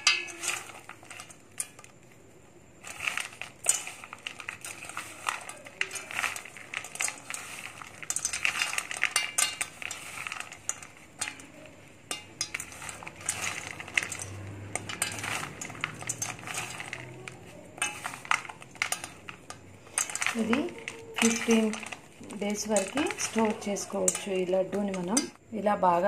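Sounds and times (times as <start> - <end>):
peanuts rattling in steel bowl: 0.0 - 26.0.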